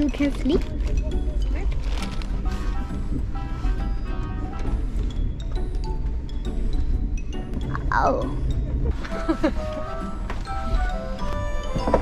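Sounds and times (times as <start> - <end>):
background music with held notes: 0.0 - 12.0
train rumble: 0.0 - 12.0.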